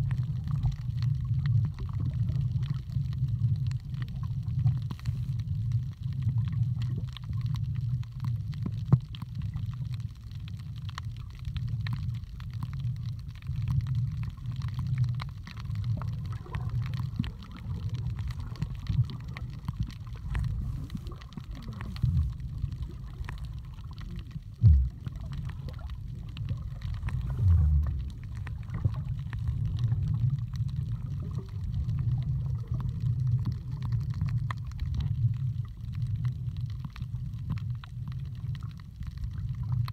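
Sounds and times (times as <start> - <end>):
faint underwater clicks: 0.0 - 39.9
muffled underwater rumble: 0.0 - 39.9.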